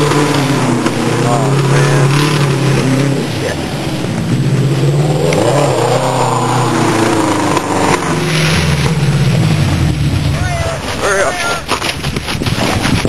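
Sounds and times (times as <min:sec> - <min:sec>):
race car engine revving past: 0:00.0 - 0:11.0.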